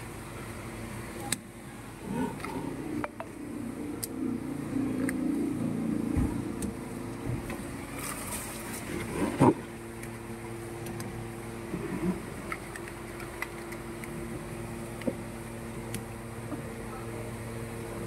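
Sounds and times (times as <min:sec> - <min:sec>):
steady motor hum: 0:00.0 - 0:18.0.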